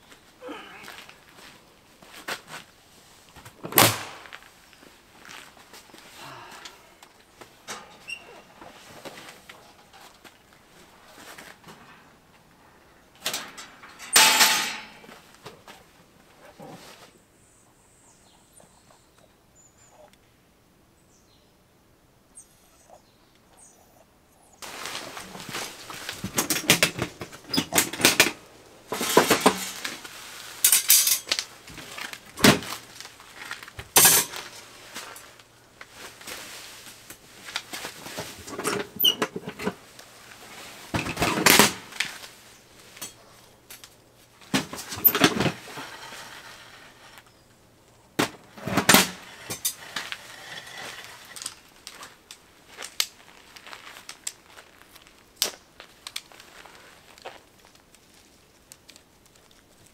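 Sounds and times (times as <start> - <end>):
rustling: 0.0 - 19.2, 24.5 - 59.9.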